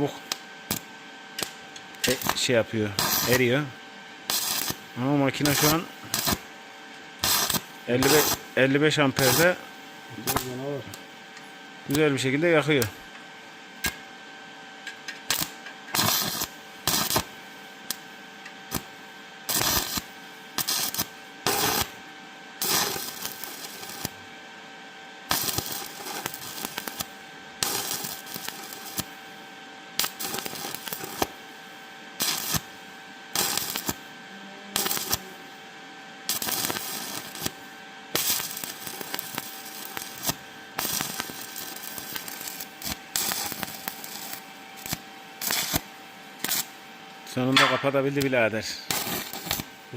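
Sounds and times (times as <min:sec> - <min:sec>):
welding arc crackling: 0:00.0 - 0:06.5, 0:07.2 - 0:11.1, 0:14.9 - 0:22.0, 0:22.6 - 0:24.2, 0:25.2 - 0:29.2, 0:30.0 - 0:31.5, 0:32.2 - 0:34.0, 0:34.7 - 0:35.4, 0:36.2 - 0:46.8, 0:47.4 - 0:49.9.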